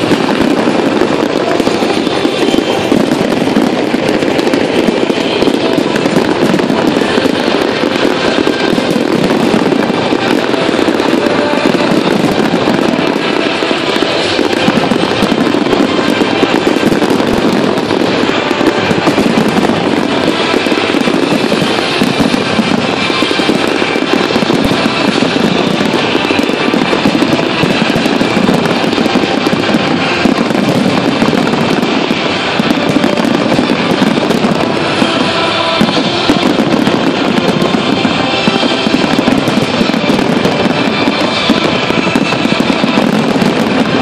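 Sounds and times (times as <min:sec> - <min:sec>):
fireworks bursts and crackling: 0:00.0 - 0:44.0
music playing: 0:00.0 - 0:44.0.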